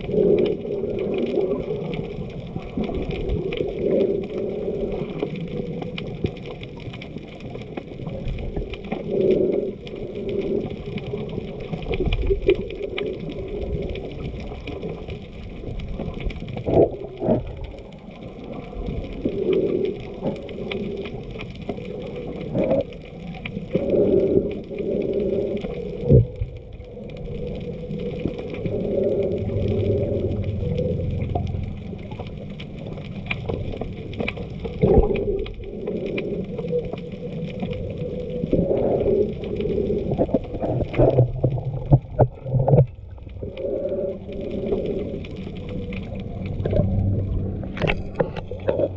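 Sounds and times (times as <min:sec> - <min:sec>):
muffled underwater sloshing: 0:00.0 - 0:48.9.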